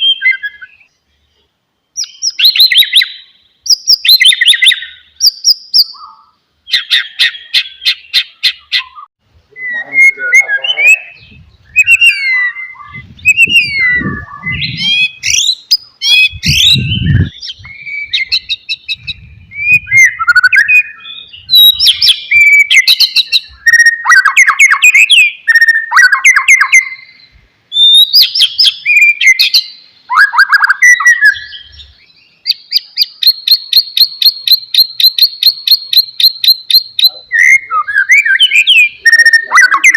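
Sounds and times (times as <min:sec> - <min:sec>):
bird whistled song: 0:00.0 - 0:01.0, 0:01.9 - 0:39.9.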